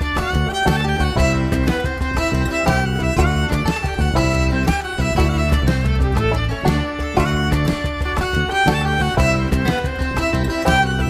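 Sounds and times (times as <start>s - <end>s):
fiddle tune: 0.0s - 11.0s.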